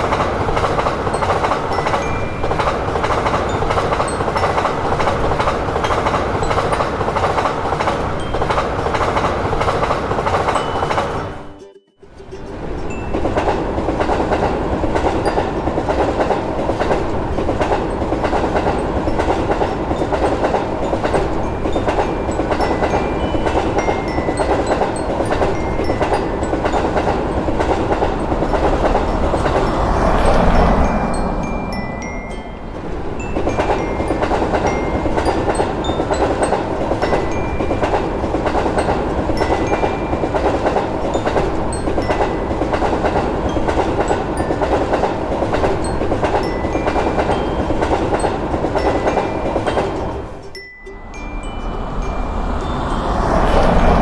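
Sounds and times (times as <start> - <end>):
wheels clicking over rail joints: 0.0 - 11.5, 12.4 - 54.0
train rolling on rails: 0.0 - 54.0.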